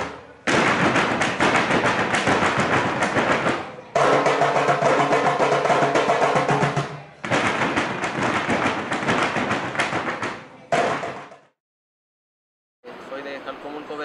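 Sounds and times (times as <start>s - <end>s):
drum and percussion music: 0.0s - 11.5s.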